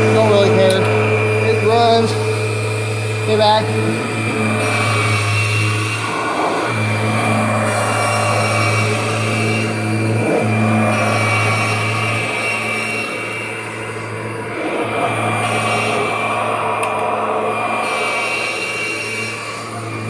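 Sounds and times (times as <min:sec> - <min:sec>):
vacuum motor humming and whining: 0:00.0 - 0:20.0.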